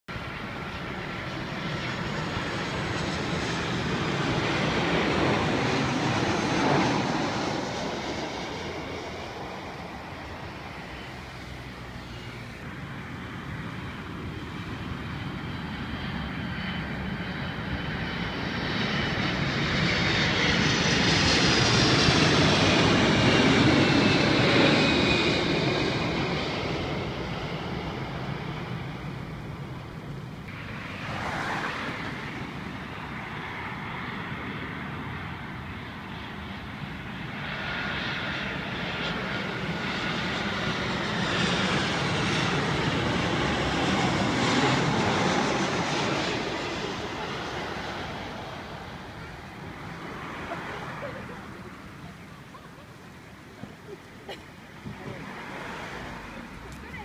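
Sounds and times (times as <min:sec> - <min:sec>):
jet airliner engine roar and whine: 0:00.1 - 0:57.0.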